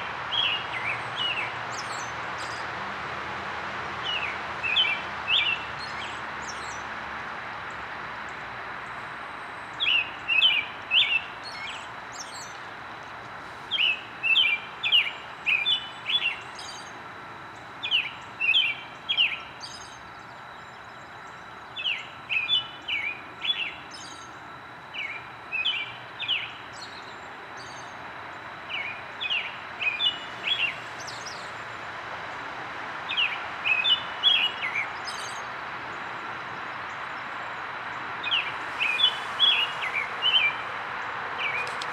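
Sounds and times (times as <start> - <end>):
robin singing: 0.0 - 2.8, 4.0 - 6.9, 7.6 - 32.0, 33.1 - 41.9
steady background hiss: 0.0 - 41.9.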